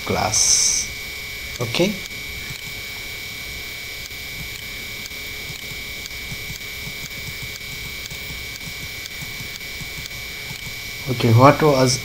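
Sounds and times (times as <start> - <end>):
background hiss and hum: 0.0 - 12.0
high-pitched whine: 0.0 - 12.0.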